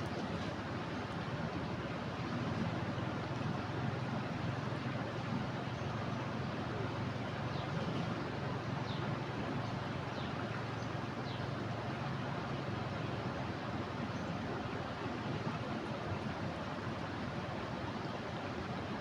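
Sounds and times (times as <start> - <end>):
rushing floodwater: 0.0 - 19.0.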